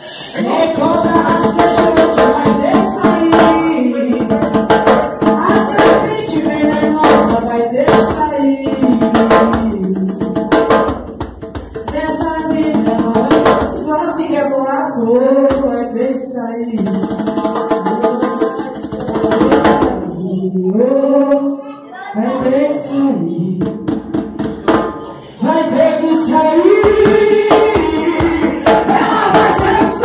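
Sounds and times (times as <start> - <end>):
percussion hits: 0.0 - 20.6, 23.6 - 30.0
singing with instrumental music: 0.0 - 30.0.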